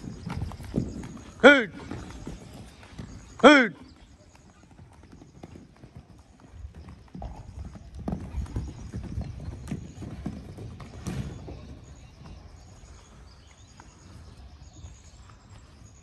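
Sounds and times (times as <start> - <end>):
horse hooves clopping: 0.0 - 16.0.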